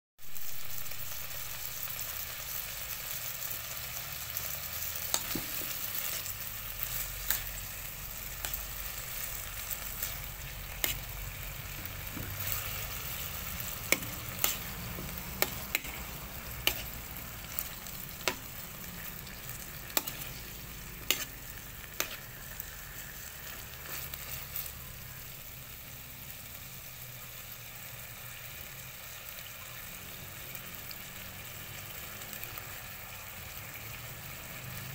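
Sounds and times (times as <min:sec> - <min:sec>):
food sizzling in a pan: 0:00.2 - 0:34.9.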